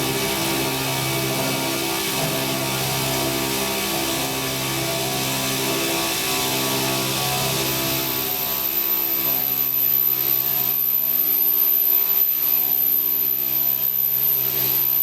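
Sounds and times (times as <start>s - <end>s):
circular saw machine humming: 0.0s - 15.0s
high-pitched whine: 0.0s - 15.0s.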